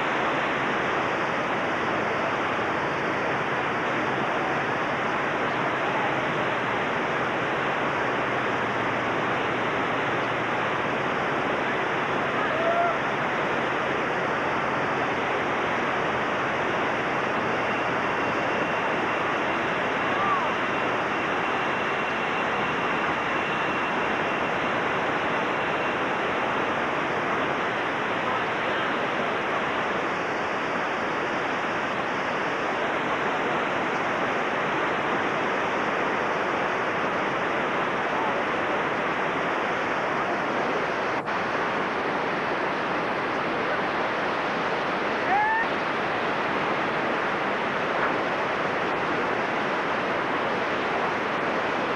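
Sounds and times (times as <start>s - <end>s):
whitewater rapids rushing: 0.0s - 51.9s.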